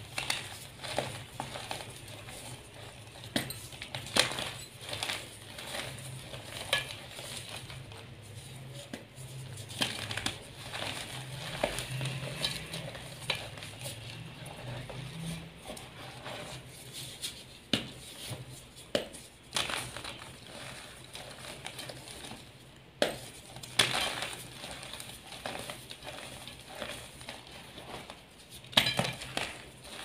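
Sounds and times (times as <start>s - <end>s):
chalk powder crunching: 0.0s - 30.0s.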